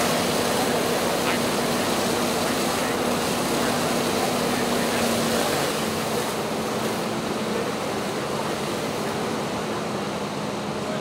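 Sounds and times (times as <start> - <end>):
fire engine motor humming: 0.0 - 11.0
rushing fire noise: 0.0 - 11.0.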